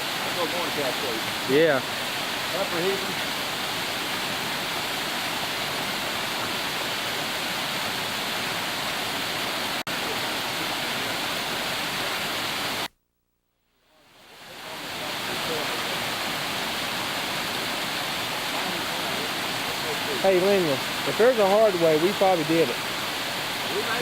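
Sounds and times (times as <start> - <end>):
waterfall rushing: 0.0 - 12.9, 14.2 - 24.0.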